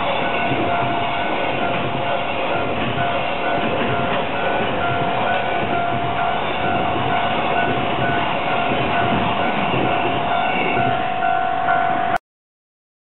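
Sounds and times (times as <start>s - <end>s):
train wheels rumbling on rails: 0.0s - 12.2s.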